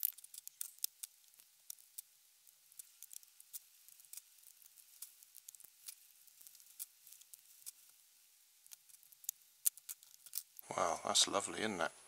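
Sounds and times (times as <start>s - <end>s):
light metal clicks and scrapes: 0.0s - 8.0s, 8.6s - 10.6s.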